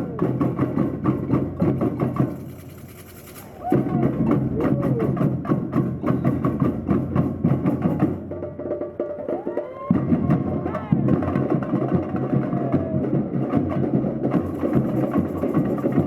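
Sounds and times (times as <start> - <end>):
samba percussion drumming: 0.0 - 16.0.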